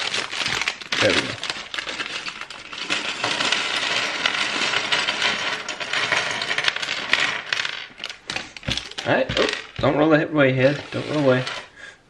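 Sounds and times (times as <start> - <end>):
plastic pieces clattering onto table: 0.0 - 9.9.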